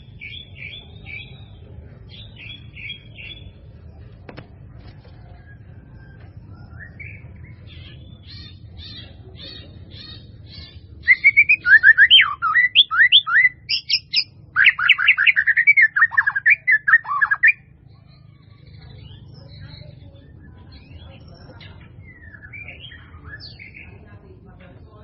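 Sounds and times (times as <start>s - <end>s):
bird singing: 0.0s - 4.0s, 5.1s - 24.8s.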